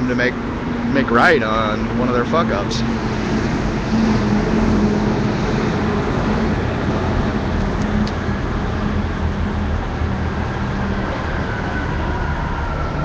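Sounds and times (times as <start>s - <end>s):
low engine hum: 0.0s - 13.0s
road noise rumble: 0.0s - 13.0s.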